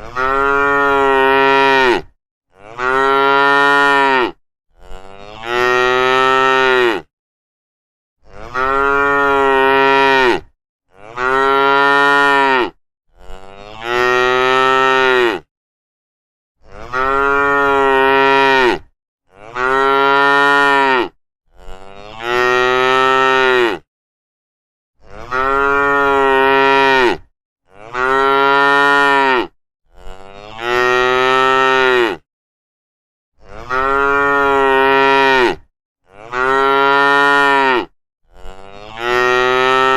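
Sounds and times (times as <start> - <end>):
cattle mooing: 0.0 - 7.1, 8.2 - 15.5, 16.8 - 23.8, 25.1 - 32.2, 33.5 - 39.9.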